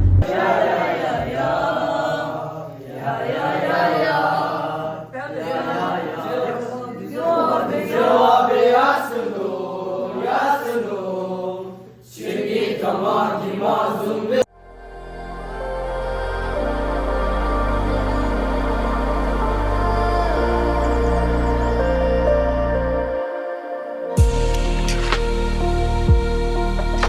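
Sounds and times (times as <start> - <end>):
voices chanting together: 0.2 - 24.4.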